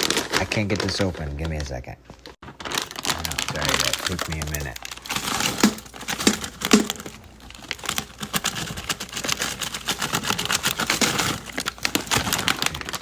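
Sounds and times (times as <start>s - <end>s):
plastic food package crinkling: 0.0s - 13.0s.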